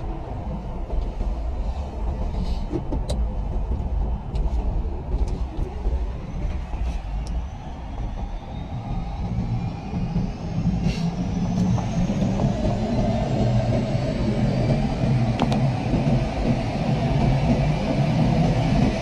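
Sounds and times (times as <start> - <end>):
helicopter rotor rumble: 0.0 - 19.0.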